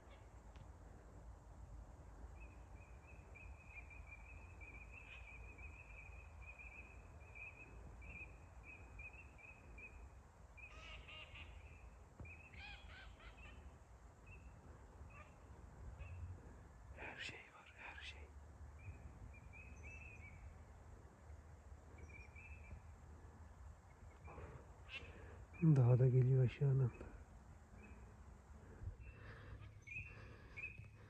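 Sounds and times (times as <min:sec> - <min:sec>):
faint birds chirping: 0:00.0 - 0:31.0.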